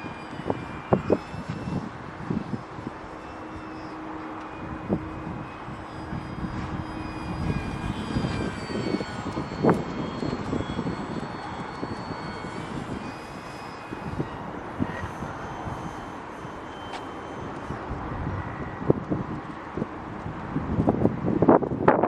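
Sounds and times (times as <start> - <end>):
model plane motor whine: 0.0 - 22.0
wind buffeting microphone: 0.0 - 22.0.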